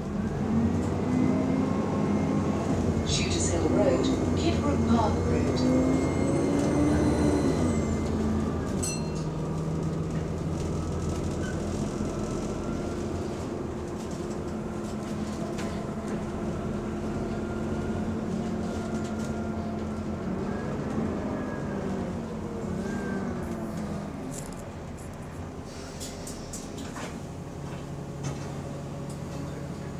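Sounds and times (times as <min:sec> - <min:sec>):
bus engine humming and whining: 0:00.0 - 0:29.9.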